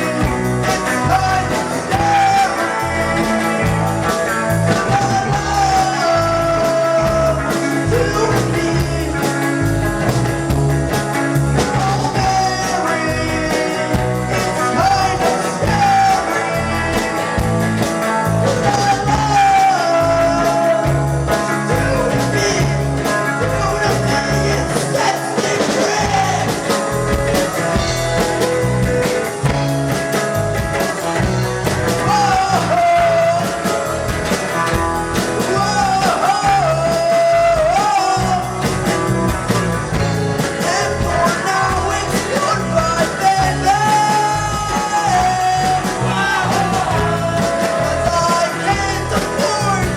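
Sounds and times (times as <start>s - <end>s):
lead singer singing: 0.0s - 49.9s
rock band playing live: 0.0s - 49.9s.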